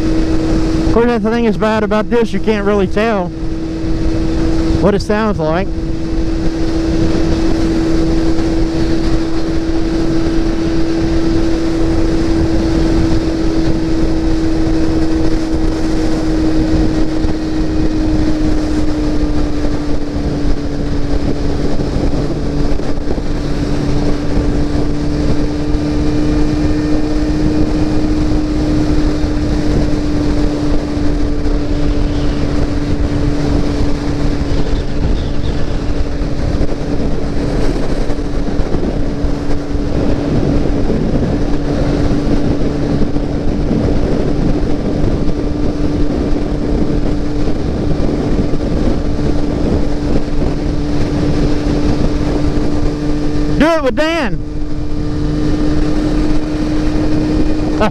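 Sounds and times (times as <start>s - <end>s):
motorcycle engine cruising: 0.0s - 57.9s
wind rushing over microphone: 0.0s - 57.9s.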